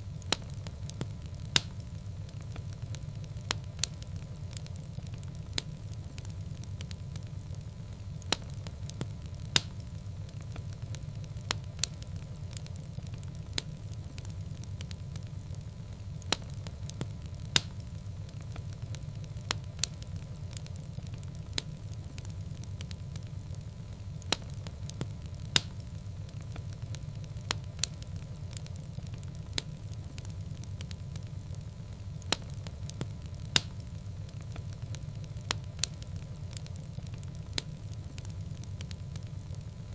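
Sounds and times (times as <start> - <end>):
fire popping and crackling: 0.0 - 39.9
fireplace flames rumbling: 0.0 - 39.9.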